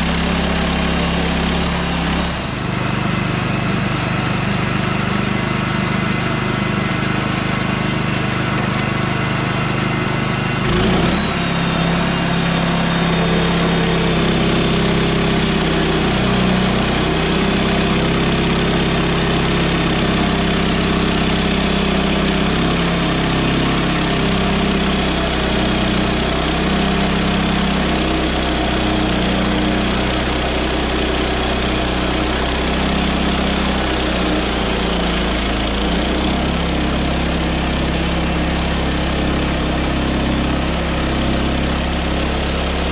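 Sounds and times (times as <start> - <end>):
sawmill gas engine running: 0.0 - 42.9.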